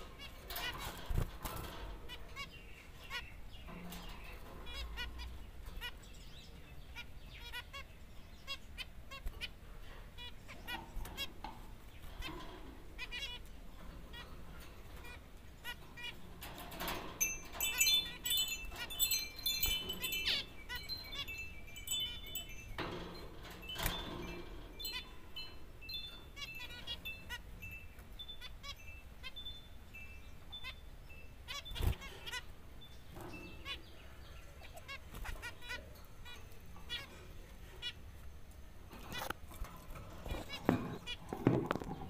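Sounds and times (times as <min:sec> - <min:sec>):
finches calling: 0:00.0 - 0:38.3.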